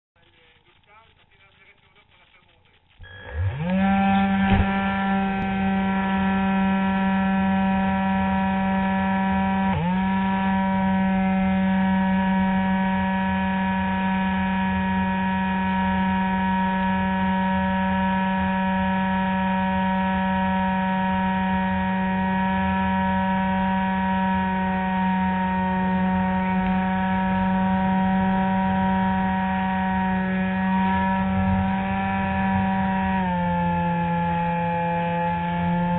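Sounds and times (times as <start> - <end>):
electric motor and propeller whine: 3.0 - 35.9.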